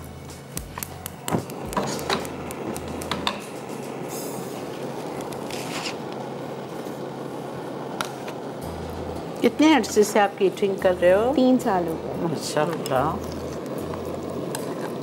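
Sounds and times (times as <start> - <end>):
food hissing in hot pan: 0.3 - 15.0.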